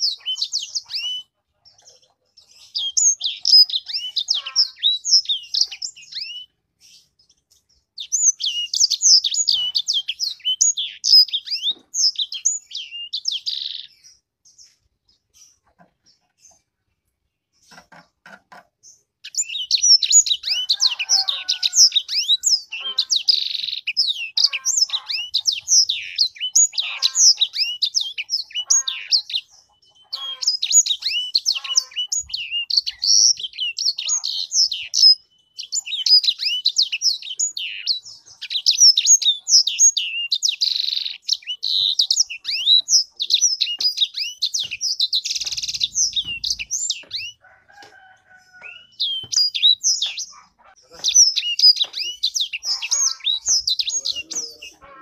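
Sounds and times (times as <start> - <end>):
songbird twittering and warbling: 0.0 - 55.0.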